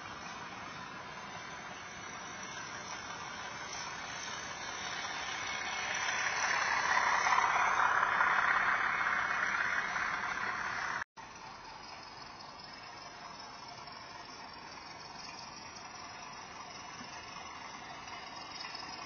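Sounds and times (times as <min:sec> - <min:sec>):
model train motor: 0:00.0 - 0:19.0
model train wheels rolling on track: 0:00.0 - 0:19.0.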